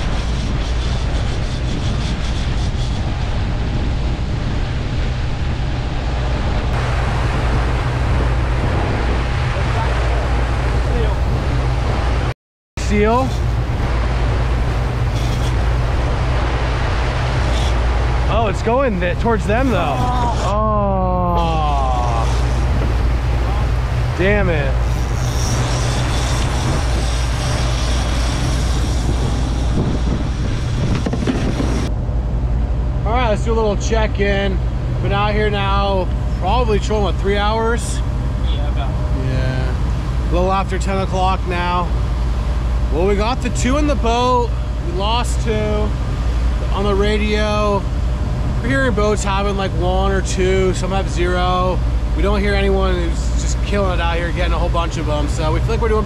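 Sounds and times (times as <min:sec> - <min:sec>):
boat engine humming: 0:00.0 - 0:56.0
rush of boat wake: 0:00.0 - 0:56.0.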